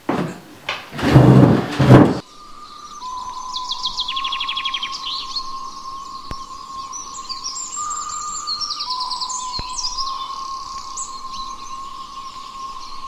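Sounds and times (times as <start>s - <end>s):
bird trill: 2.2s - 13.0s
small birds chirping: 2.2s - 13.0s
steady high tone: 2.2s - 13.0s.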